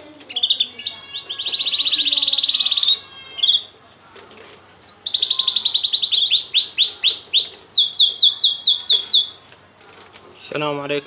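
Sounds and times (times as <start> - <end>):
canary singing trills: 0.0 - 9.5.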